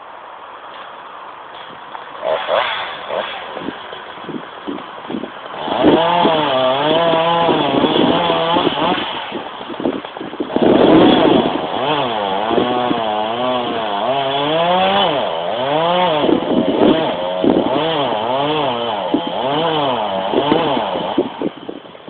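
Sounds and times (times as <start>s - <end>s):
chainsaw cutting wood: 0.7s - 21.9s.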